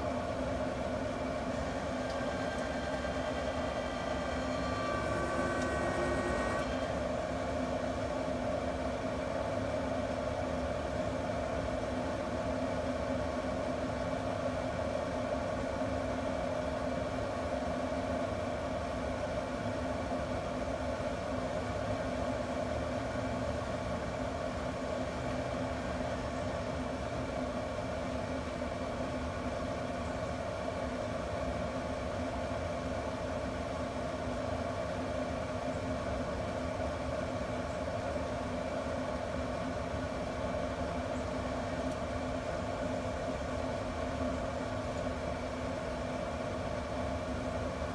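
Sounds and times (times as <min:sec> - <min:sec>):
grill fan humming: 0:00.0 - 0:47.9.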